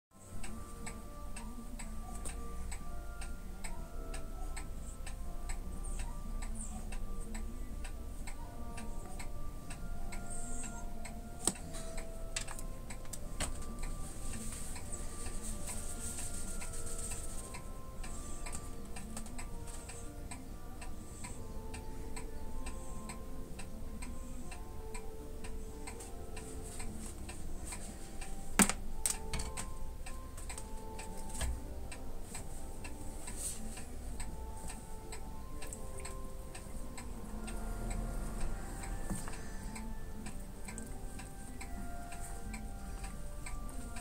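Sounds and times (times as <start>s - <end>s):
soft background music: 0.1s - 44.0s
clock-like ticking beat: 0.2s - 44.0s.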